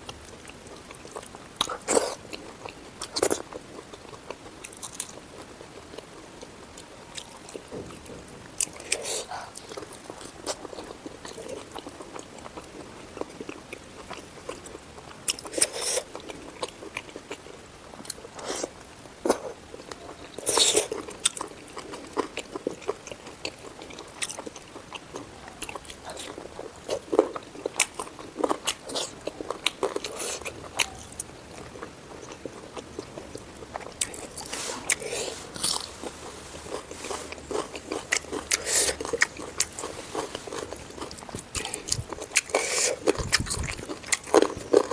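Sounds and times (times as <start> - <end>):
chewing and crunching mouth sounds: 0.0 - 44.9.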